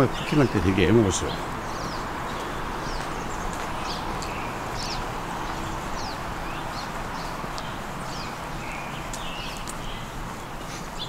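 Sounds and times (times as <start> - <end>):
background hiss: 0.0 - 11.0
small birds chirping: 0.0 - 11.0.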